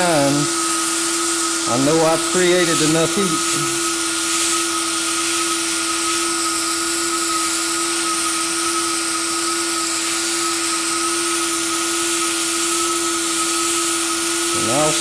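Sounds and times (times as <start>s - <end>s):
hot-air welder blowing: 0.0s - 15.0s.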